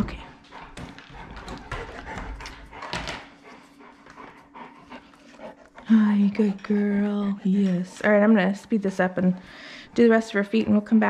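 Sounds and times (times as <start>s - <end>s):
dog panting: 0.0s - 10.8s.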